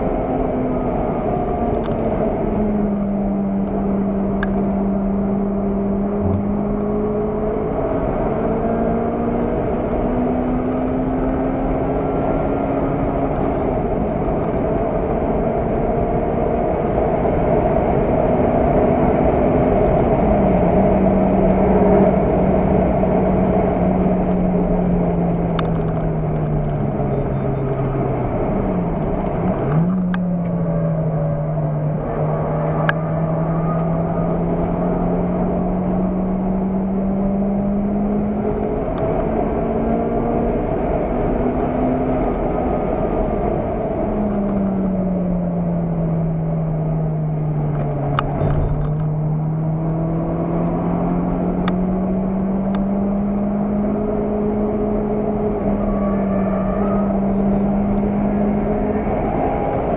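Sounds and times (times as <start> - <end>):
car engine: 0.0 - 59.9
road and wind noise: 0.0 - 59.9.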